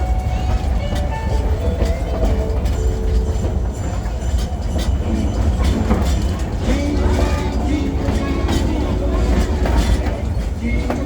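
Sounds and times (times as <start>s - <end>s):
train rumbling on track: 0.0s - 11.0s
wheels clicking on rails: 0.0s - 11.0s.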